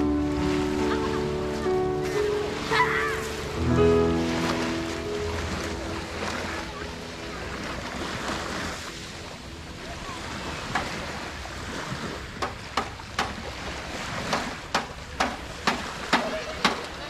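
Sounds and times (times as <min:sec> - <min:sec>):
sea waves washing on beach: 0:00.0 - 0:17.0
wind: 0:00.0 - 0:17.0.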